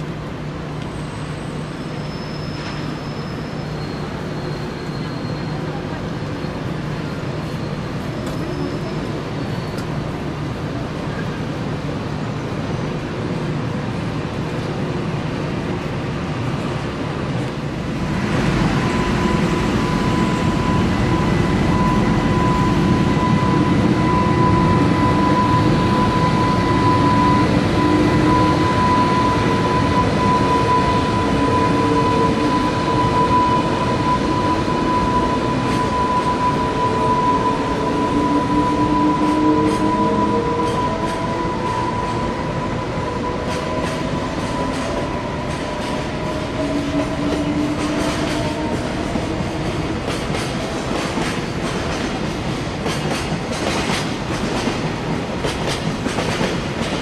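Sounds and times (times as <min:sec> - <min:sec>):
train rail rumble: 0:00.0 - 0:57.0.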